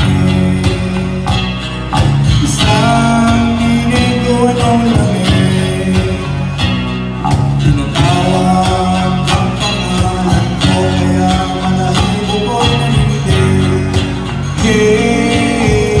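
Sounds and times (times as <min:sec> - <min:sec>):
guitar: 0:00.0 - 0:16.0
live band playing: 0:00.0 - 0:16.0
percussive beat: 0:00.0 - 0:16.0.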